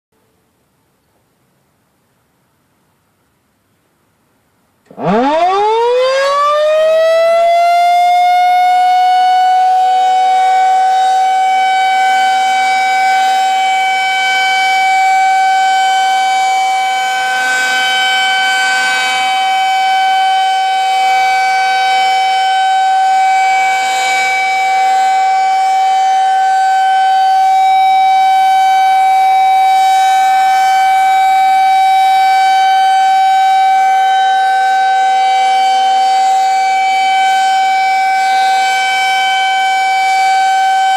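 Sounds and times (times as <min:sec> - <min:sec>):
tornado siren wailing: 0:04.9 - 0:40.9.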